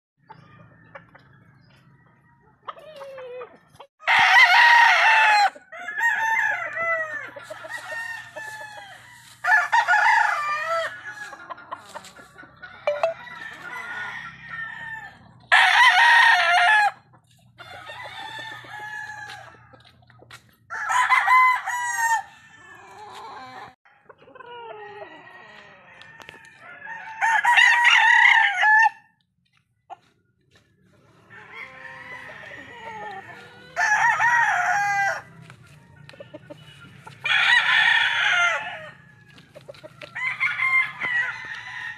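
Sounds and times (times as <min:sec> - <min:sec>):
chickens clucking: 0:00.2 - 0:04.0, 0:05.3 - 0:15.5, 0:16.4 - 0:27.3, 0:29.4 - 0:41.9
roosters crowing: 0:00.2 - 0:29.2, 0:31.0 - 0:41.9.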